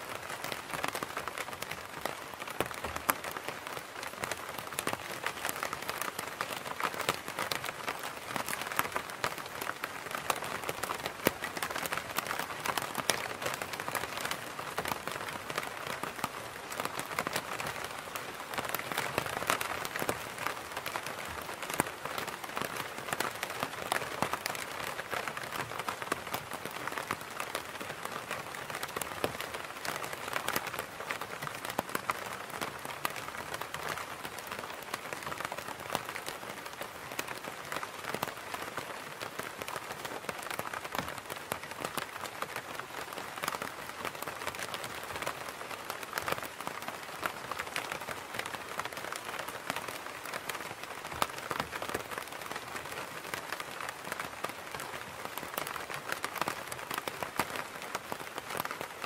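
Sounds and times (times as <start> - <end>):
rain pattering on an umbrella: 0.0 - 59.0.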